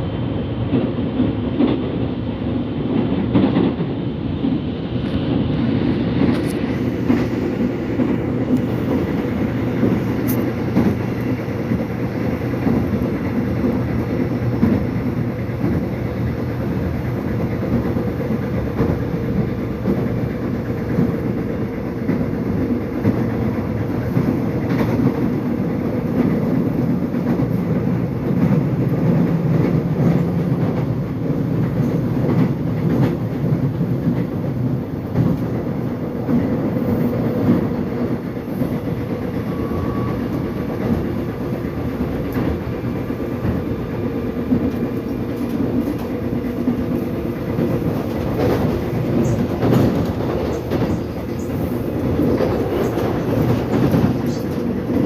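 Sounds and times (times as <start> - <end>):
subway train rumble: 0.0 - 55.0
wheels clacking on track: 0.6 - 55.0.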